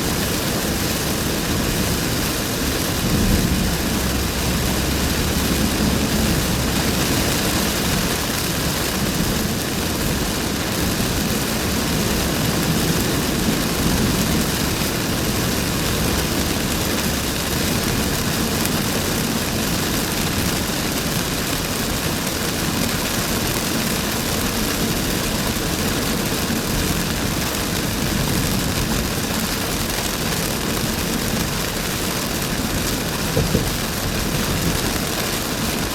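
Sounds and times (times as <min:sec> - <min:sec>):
car tyres on flooded road: 0:00.0 - 0:35.9
heavy rain: 0:00.0 - 0:35.9.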